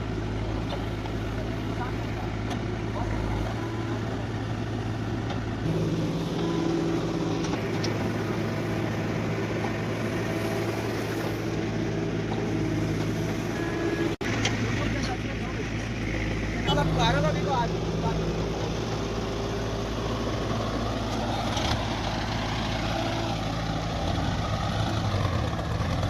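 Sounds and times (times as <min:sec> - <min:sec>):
diesel machinery engine hum: 0:00.0 - 0:26.0.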